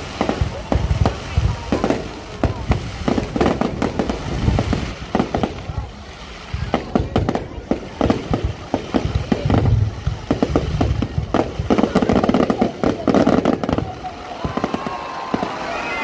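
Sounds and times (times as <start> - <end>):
low firework booms: 0.0 - 15.6
fireworks pops and crackles: 0.0 - 16.0.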